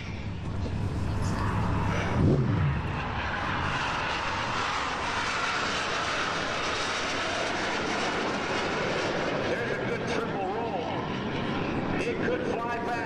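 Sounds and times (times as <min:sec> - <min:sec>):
jet plane fly-past roar: 0:00.0 - 0:13.0.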